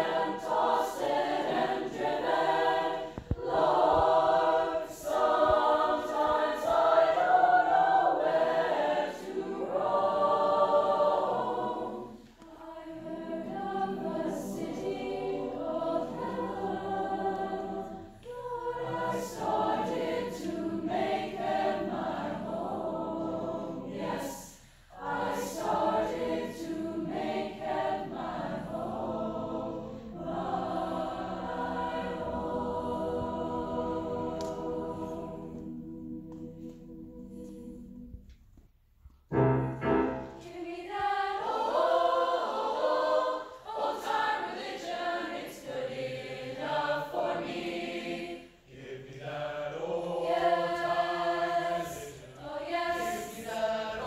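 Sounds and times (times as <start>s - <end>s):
mixed choir singing: 0.0s - 38.4s, 39.3s - 54.0s.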